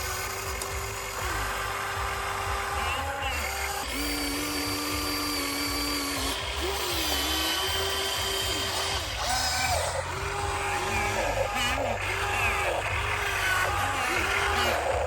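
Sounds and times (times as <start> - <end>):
electric pump motor whining: 0.0 - 15.0.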